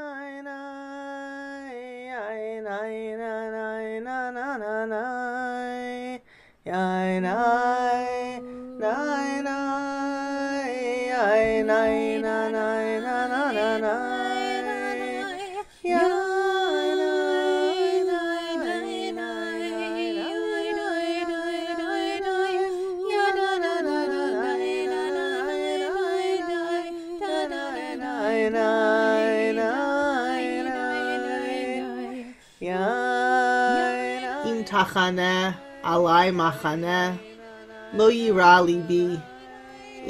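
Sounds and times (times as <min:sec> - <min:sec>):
women singing chant in harmony: 0:06.7 - 0:40.0.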